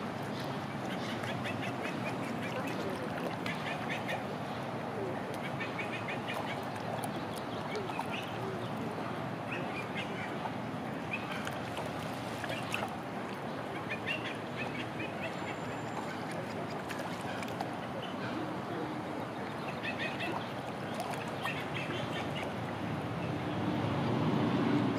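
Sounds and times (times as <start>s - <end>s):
low background noise: 0.0s - 23.8s
waterbirds calling: 0.0s - 24.1s.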